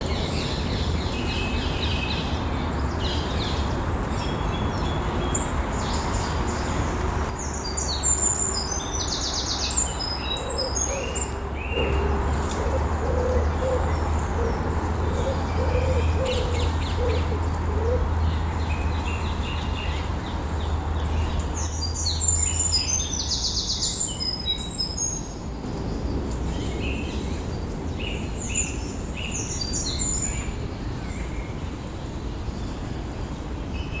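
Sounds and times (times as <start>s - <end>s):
birds singing and chirping: 0.0s - 34.0s.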